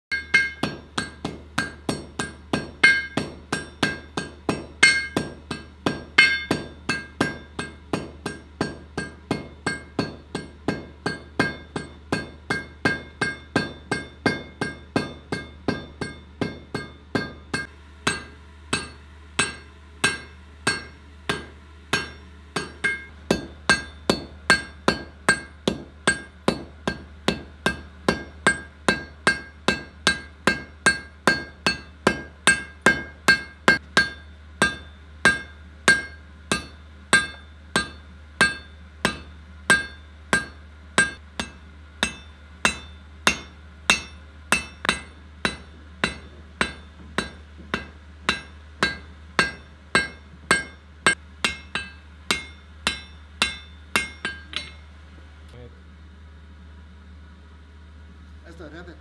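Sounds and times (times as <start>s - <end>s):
hammer striking iron on anvil: 0.1s - 54.9s.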